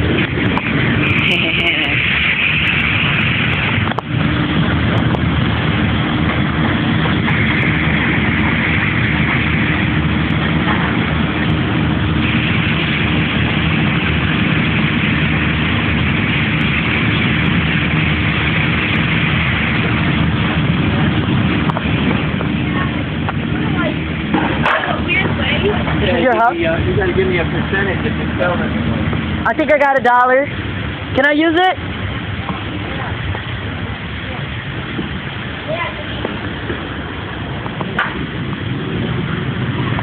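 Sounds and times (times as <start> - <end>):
motor engine humming: 0.0 - 40.0.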